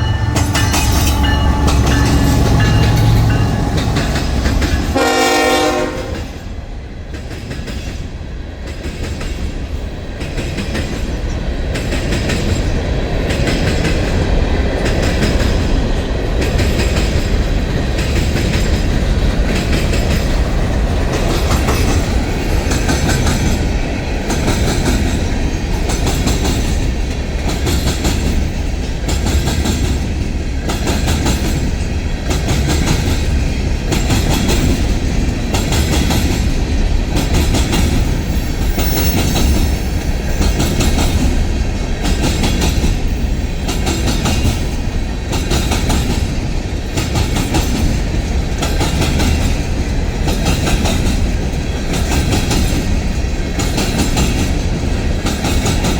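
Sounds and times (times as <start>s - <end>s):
wheels clacking over rail joints: 0.0s - 6.3s, 8.7s - 55.9s
rumble of train wheels: 0.0s - 55.9s.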